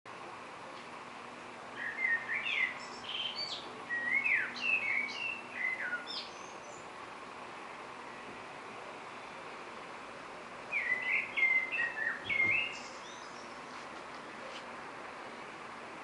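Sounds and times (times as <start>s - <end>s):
songbird singing: 0.4s - 15.8s.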